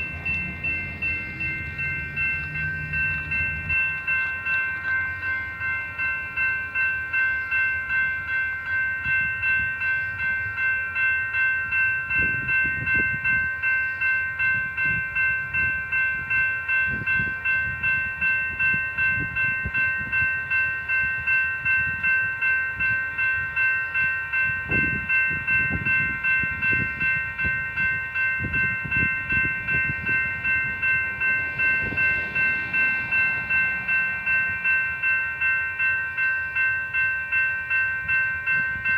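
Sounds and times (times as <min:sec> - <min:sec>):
train cars clanking: 0:00.0 - 0:16.0, 0:16.7 - 0:38.9
crossing bell ringing: 0:00.0 - 0:38.9
freight train rumbling: 0:00.0 - 0:38.9.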